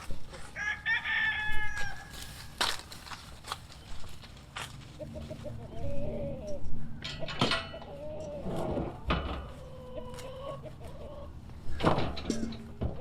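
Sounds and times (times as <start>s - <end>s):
farm animals calling: 0.0s - 13.0s.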